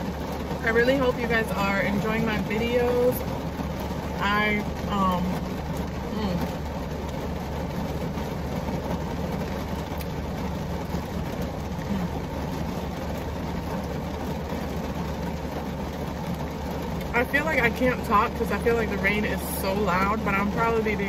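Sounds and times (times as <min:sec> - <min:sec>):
heavy rain on car roof: 0:00.0 - 0:21.0
low steady rumble: 0:00.0 - 0:21.0.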